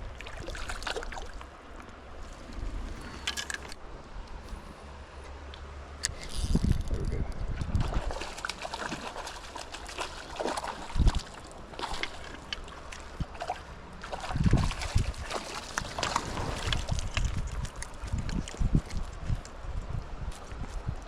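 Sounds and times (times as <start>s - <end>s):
creek water running and splashing: 0.0s - 5.8s, 7.4s - 20.9s.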